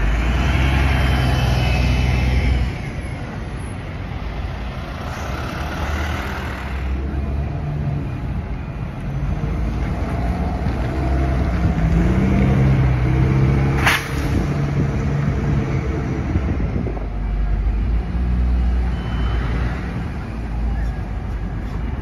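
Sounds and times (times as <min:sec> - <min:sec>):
bus diesel engine passing: 0:00.0 - 0:22.0
city traffic rumble: 0:00.0 - 0:22.0.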